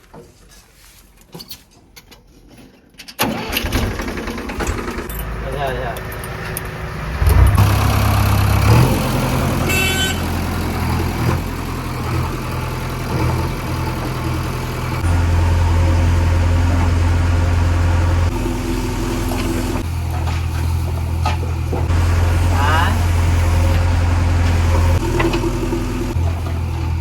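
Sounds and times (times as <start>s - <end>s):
diesel engine running: 3.3s - 27.0s.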